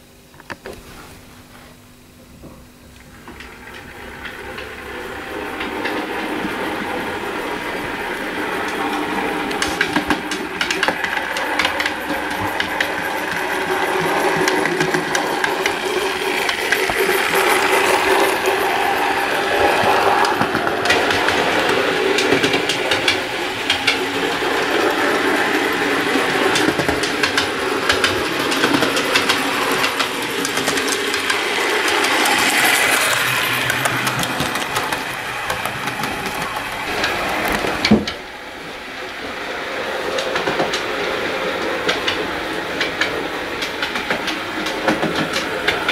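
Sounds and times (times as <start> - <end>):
train running rumble: 2.0 - 45.9
model train wheels clicking: 3.1 - 45.9.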